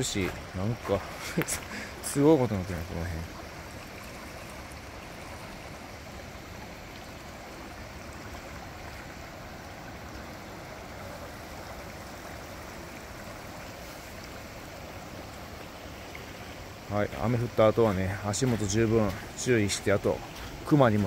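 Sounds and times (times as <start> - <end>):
stream rushing past rocks: 0.0 - 21.0.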